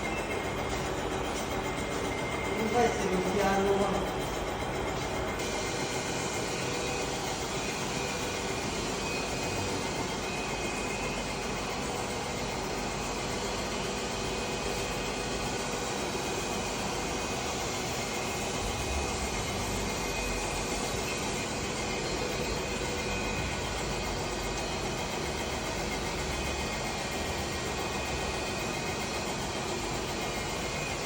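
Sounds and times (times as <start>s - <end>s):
machine running: 0.0s - 31.0s.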